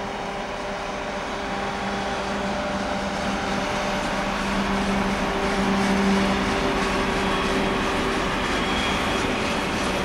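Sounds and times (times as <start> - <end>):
diesel locomotive engine drone: 0.0 - 10.0
train wheels rumbling on rail: 0.0 - 10.0.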